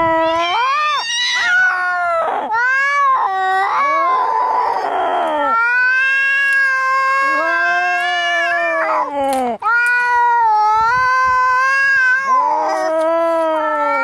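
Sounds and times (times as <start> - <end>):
cats yowling: 0.0 - 14.0.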